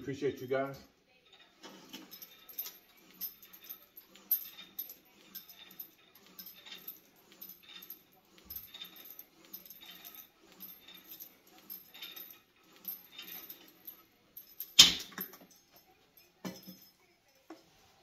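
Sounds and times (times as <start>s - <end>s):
cable machine chain jangling: 0.0s - 17.5s.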